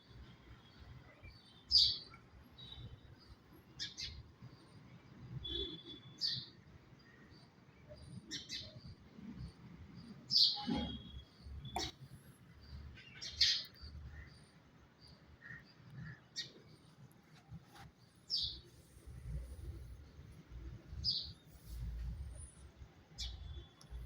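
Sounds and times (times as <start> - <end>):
small birds chirping: 0.2 - 24.0.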